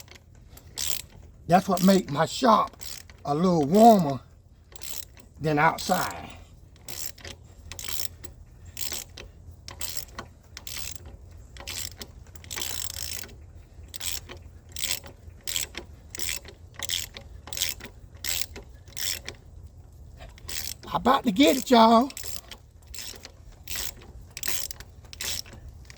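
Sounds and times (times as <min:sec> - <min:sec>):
ratchet wrench clicking: 0:00.0 - 0:04.1, 0:04.7 - 0:06.1, 0:06.8 - 0:19.4, 0:20.3 - 0:25.9.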